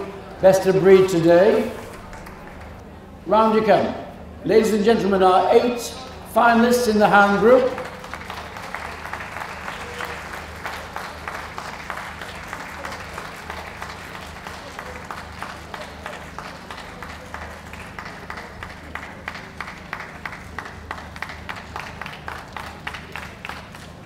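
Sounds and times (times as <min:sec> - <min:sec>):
spectators applauding: 0:00.0 - 0:03.3, 0:06.1 - 0:24.0.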